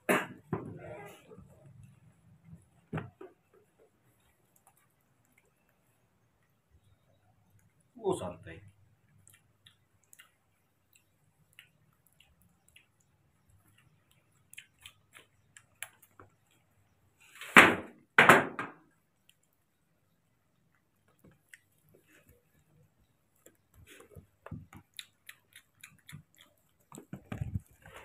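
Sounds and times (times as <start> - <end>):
baby monkeys sucking bottles: 0.8 - 17.4, 19.2 - 28.0.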